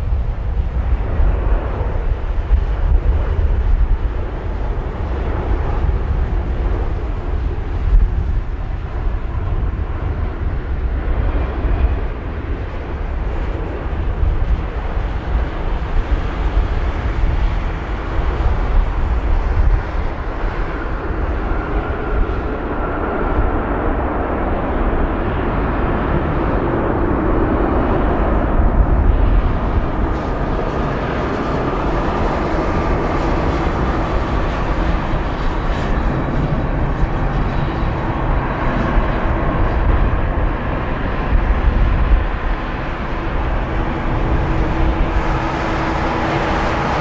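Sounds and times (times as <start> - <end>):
high-pitched engine whine: 0.0 - 47.0
jet engine roar: 0.0 - 47.0
wind rumble on microphone: 0.0 - 47.0.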